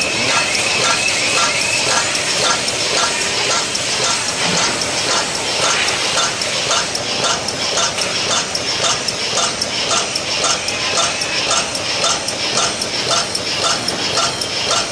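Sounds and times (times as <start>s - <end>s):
machine clacking: 0.0s - 14.9s
steady machine noise: 0.0s - 14.9s.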